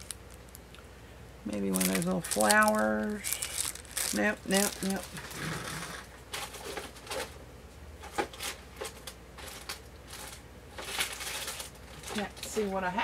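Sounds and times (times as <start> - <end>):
packets rustling: 0.0 - 0.7, 1.5 - 7.4, 8.0 - 12.5.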